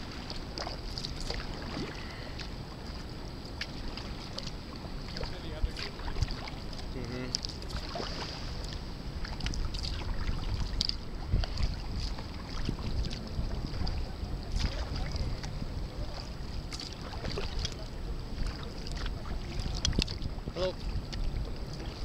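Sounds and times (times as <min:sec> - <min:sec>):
paddle splashing in water: 0:00.0 - 0:22.0
wind rumbling on microphone: 0:00.0 - 0:22.0.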